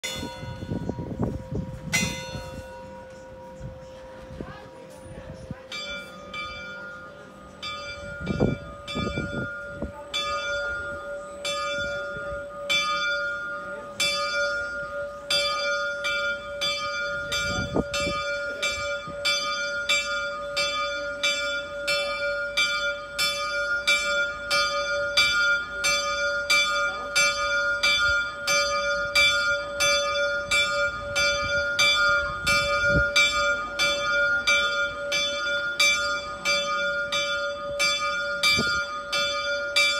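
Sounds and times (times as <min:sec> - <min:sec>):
clock bell ringing: 0:05.7 - 0:39.9.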